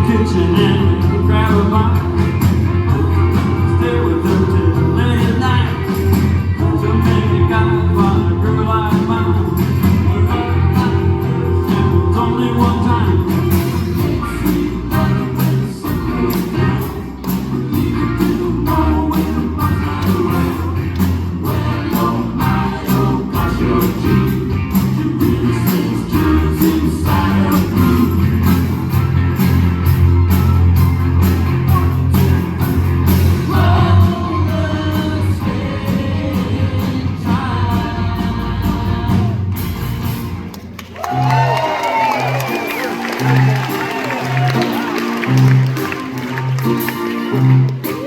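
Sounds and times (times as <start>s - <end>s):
steady drum beat: 0.0s - 40.4s
live rock band playing: 0.0s - 48.0s
sung harmonies: 0.0s - 48.0s.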